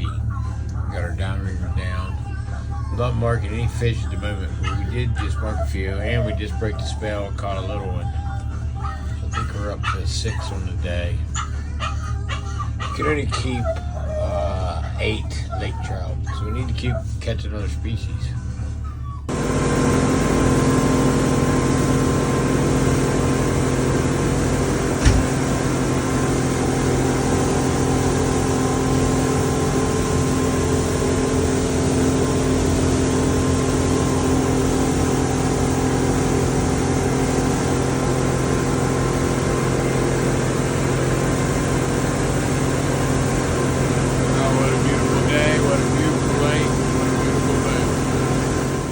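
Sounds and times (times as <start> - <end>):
boat engine droning: 0.0 - 17.0, 18.4 - 48.9.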